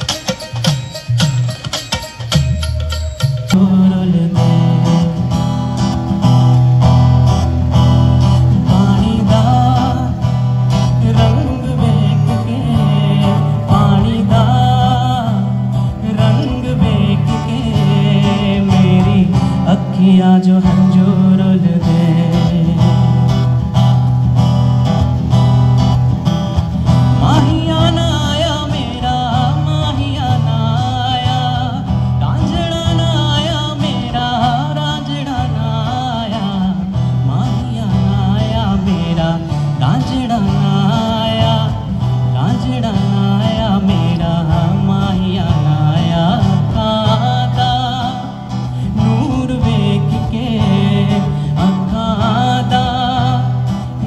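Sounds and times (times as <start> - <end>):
acoustic guitar: 0.0 - 54.0
man singing: 3.4 - 24.0, 26.8 - 54.0.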